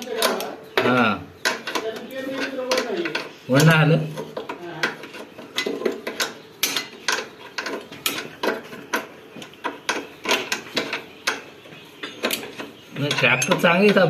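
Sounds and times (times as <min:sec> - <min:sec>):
hand tools clinking on metal: 0:00.0 - 0:14.0.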